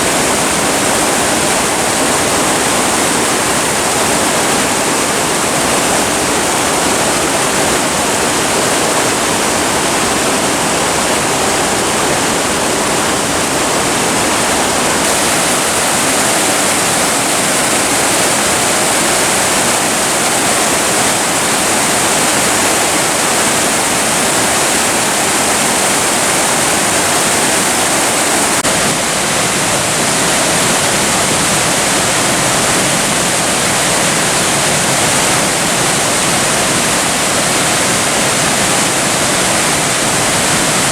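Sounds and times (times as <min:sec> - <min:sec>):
rushing stream and waterfall: 0:00.0 - 0:40.9.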